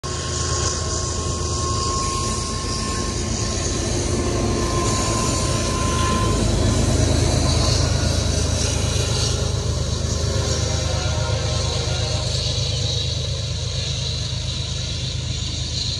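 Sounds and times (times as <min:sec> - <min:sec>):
diesel locomotives rumbling: 0:00.0 - 0:15.9
thin steady whine: 0:00.0 - 0:15.9.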